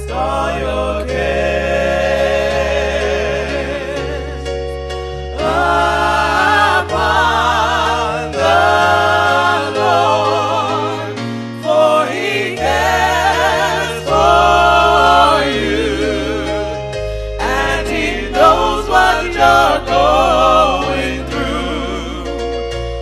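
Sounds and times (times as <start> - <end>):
gospel singing with vibrato: 0.0 - 23.0
sustained bass notes: 0.0 - 23.0.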